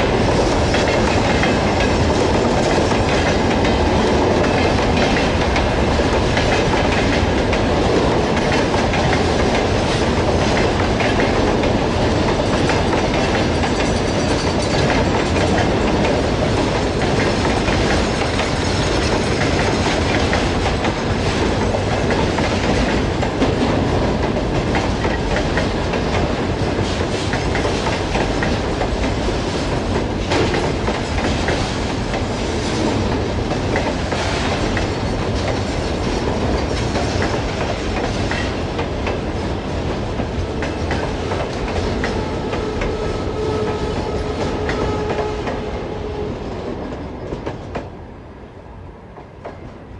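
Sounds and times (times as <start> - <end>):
freight train wheels clacking: 0.0 - 48.0.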